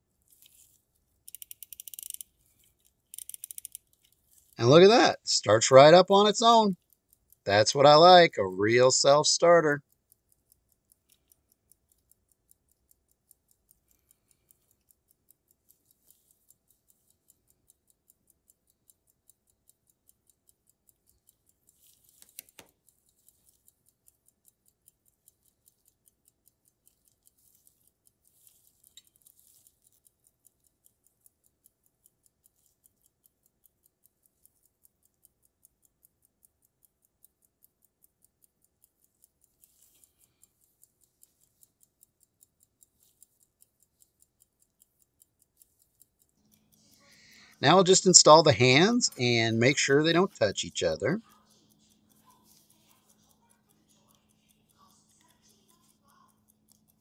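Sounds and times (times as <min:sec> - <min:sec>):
pocket watch ticking: 0:00.0 - 0:57.0.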